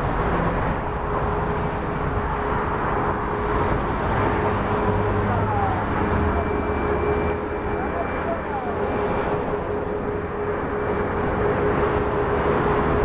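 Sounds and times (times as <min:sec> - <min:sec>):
jet engines rushing: 0:00.0 - 0:13.0
steady engine tone: 0:00.0 - 0:13.0.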